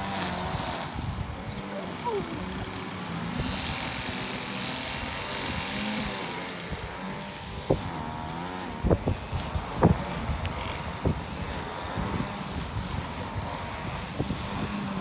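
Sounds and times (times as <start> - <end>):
small petrol engine running: 0.0 - 15.0.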